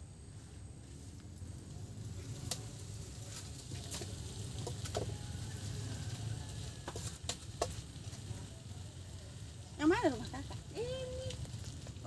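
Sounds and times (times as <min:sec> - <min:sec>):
wood fire crackling: 0:00.2 - 0:12.0.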